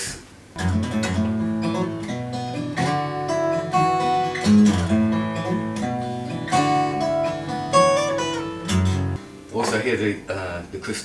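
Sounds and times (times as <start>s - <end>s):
acoustic guitar chords: 0.6s - 11.0s.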